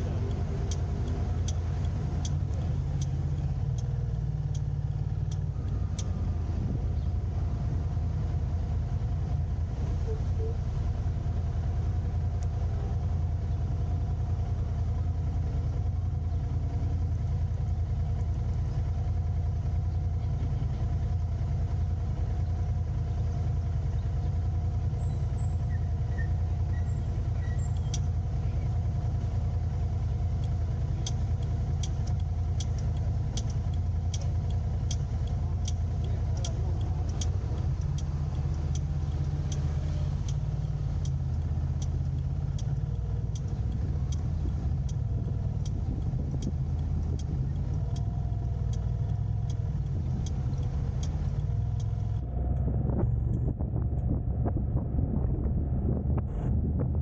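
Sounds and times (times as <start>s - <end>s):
car engine and road rumble: 0.0s - 57.0s
turn signal ticking: 0.0s - 57.0s.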